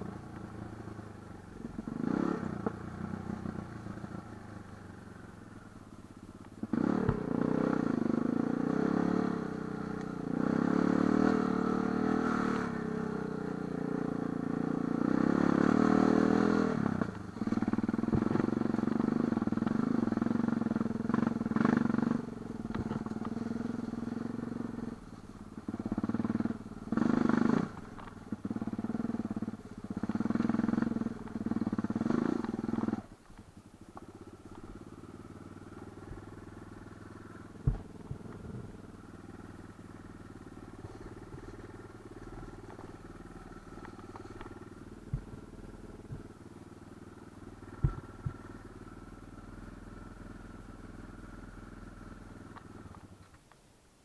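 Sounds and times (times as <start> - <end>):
motorcycle engine revving: 0.0 - 53.3.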